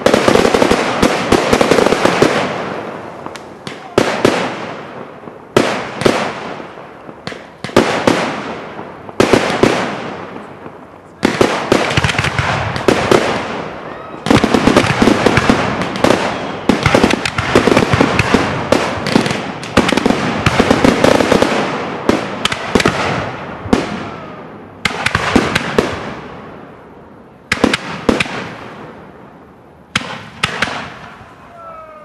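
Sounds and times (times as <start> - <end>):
fireworks bangs and crackle: 0.0 - 32.0.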